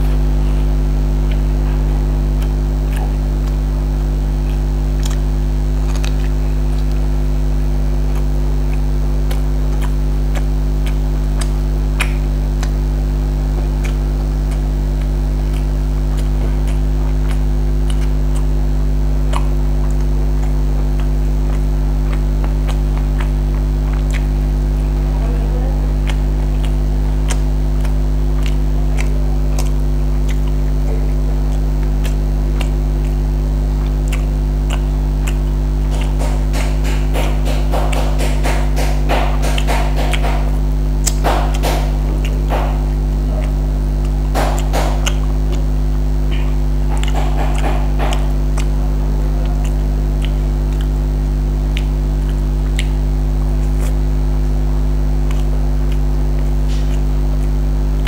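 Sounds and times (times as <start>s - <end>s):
chewing: 0.0s - 58.0s
electrical mains hum: 0.0s - 58.0s
rice mixed by hand clicks: 0.0s - 58.0s.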